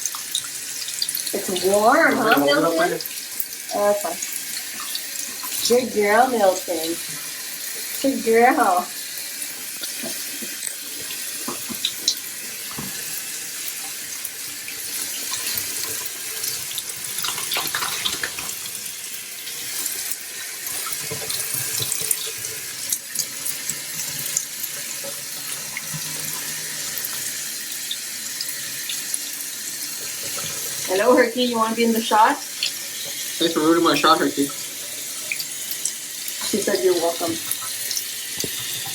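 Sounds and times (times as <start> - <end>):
running water from tap: 0.0 - 38.9.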